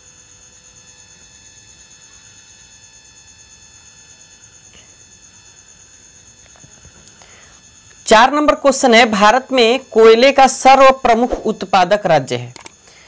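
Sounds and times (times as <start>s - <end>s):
faint steady tones: 0.0s - 13.0s.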